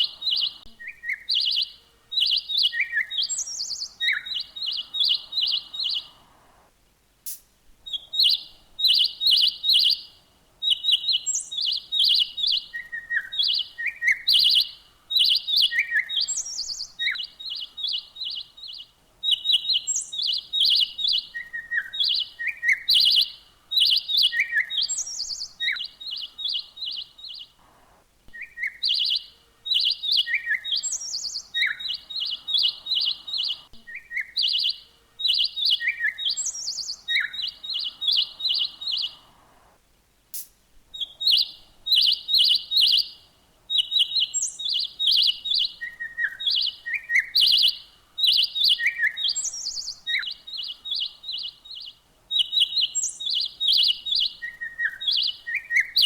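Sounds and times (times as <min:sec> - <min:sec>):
bird chirping: 0:00.0 - 0:06.7, 0:07.3 - 0:39.8, 0:40.4 - 0:56.0.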